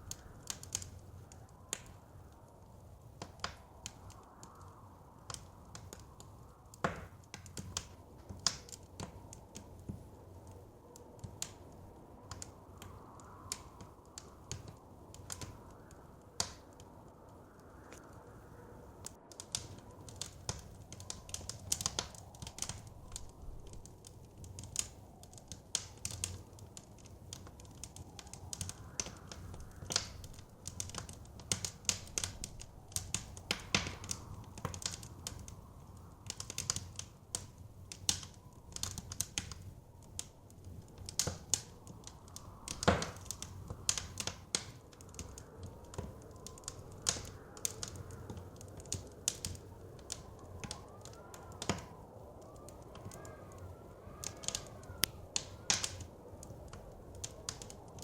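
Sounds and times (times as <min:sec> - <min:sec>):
soft low wind: 0:00.0 - 0:58.0
wood fire crackling and popping: 0:00.0 - 0:58.0.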